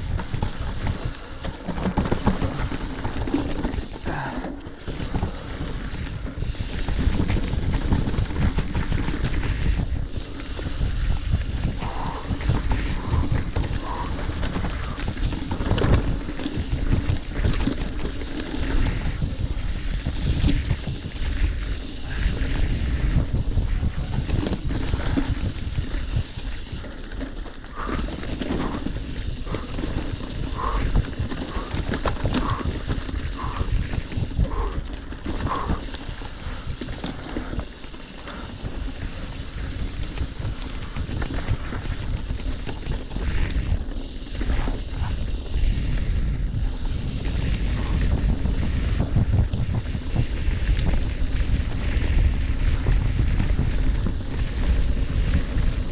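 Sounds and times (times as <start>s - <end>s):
bike knocking and rattling: 0.0s - 55.9s
tyres rolling over dirt: 0.0s - 55.9s
wind buffeting microphone: 0.0s - 55.9s.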